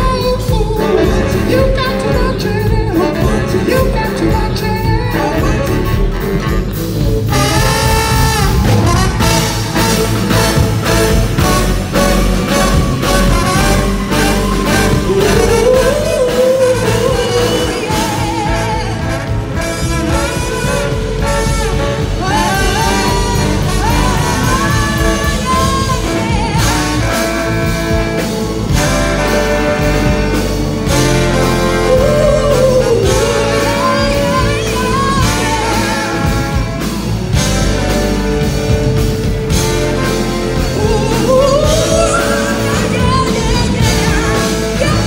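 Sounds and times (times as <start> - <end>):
brass funk band playing: 0.0 - 45.0.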